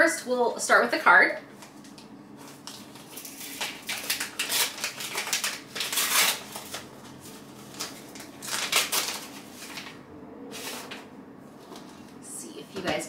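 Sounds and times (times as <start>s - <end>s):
paper envelope rustling: 1.6s - 12.2s.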